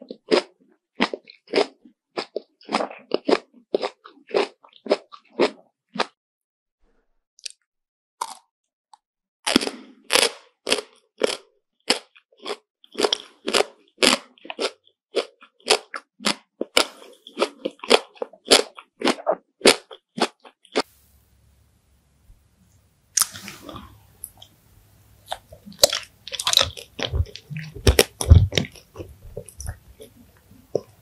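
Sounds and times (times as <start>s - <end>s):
crunchy chewing of crisp snack: 0.0s - 6.2s, 8.2s - 8.5s, 9.4s - 20.9s, 23.2s - 24.5s, 25.2s - 31.0s.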